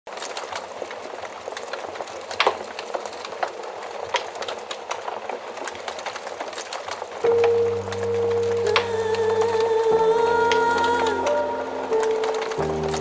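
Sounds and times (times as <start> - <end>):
fire crackling in fireplace: 0.1 - 13.0.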